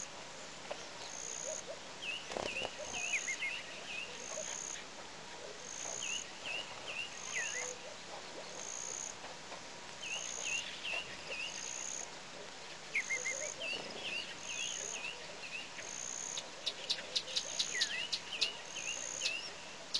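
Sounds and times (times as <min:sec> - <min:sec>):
small birds chirping: 0:00.0 - 0:05.0, 0:05.6 - 0:09.2, 0:09.9 - 0:19.9.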